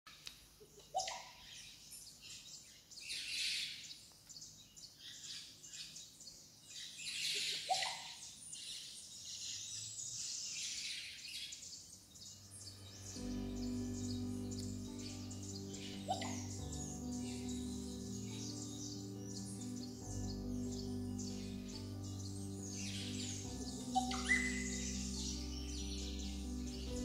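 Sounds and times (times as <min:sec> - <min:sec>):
birds chirping chorus: 0:00.8 - 0:27.0.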